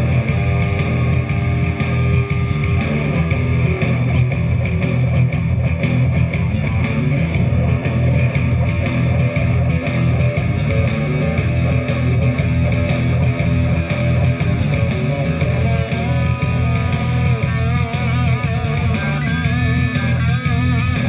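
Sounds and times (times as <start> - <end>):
distorted electric guitar: 0.0 - 21.0
drum hits: 0.0 - 21.0
loud rock band playing: 0.0 - 21.0.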